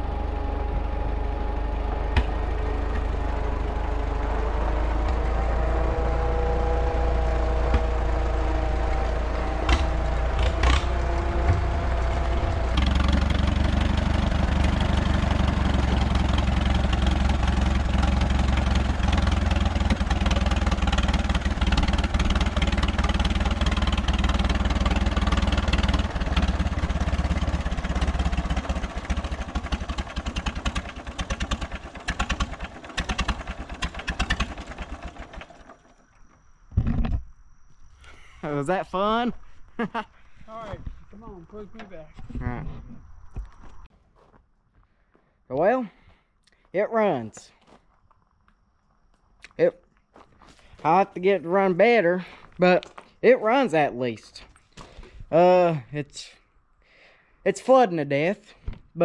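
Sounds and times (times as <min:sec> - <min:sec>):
tractor engine running: 0:00.0 - 0:43.9, 0:46.8 - 0:56.1.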